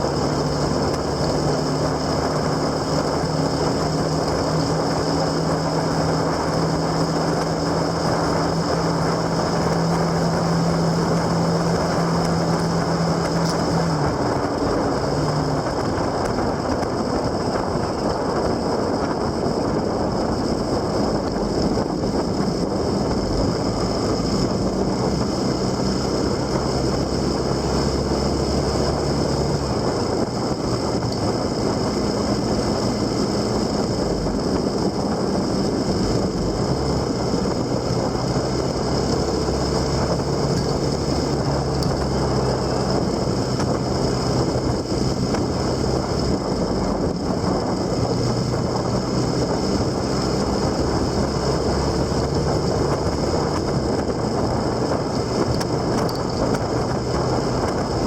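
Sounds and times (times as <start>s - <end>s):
engine hum: 0.0s - 58.0s
wind rushing over microphone: 0.0s - 58.0s.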